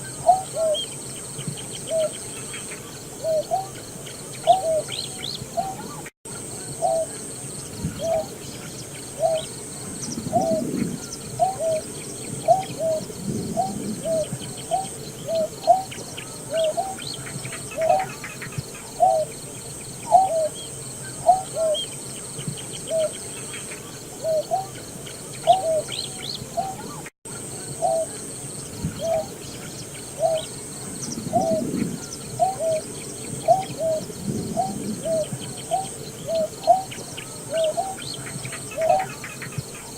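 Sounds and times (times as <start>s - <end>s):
bird hooting calls: 0.0s - 19.4s, 20.0s - 22.0s, 22.8s - 39.9s.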